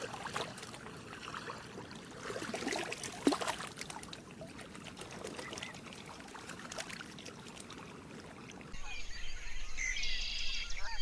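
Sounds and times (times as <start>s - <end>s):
water splashing and trickling: 0.0s - 9.9s.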